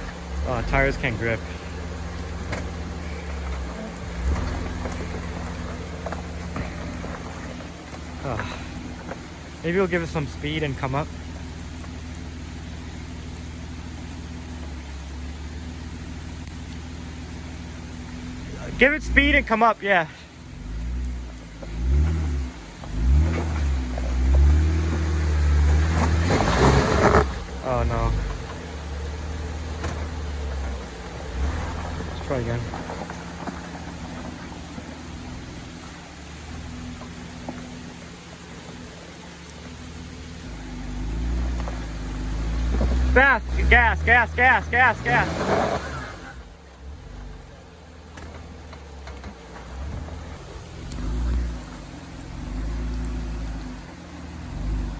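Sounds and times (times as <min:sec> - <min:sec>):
car engine running at low revs: 0:00.0 - 0:54.9.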